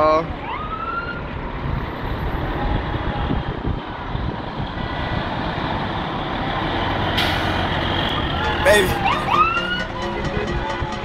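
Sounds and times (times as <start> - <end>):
emergency vehicle engines passing: 0.0 - 11.0.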